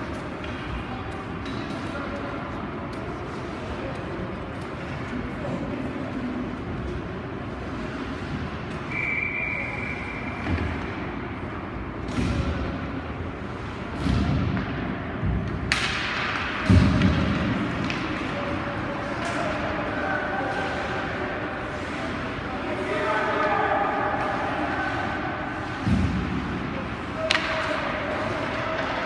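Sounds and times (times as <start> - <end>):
hockey sticks clacking on puck: 0.0 - 8.9, 13.4 - 29.0.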